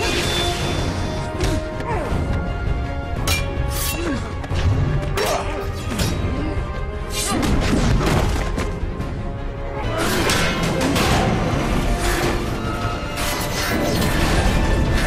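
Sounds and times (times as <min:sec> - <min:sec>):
sharp blows and metallic clashes: 0:00.0 - 0:08.6, 0:09.8 - 0:15.0
orchestral score: 0:00.0 - 0:15.0.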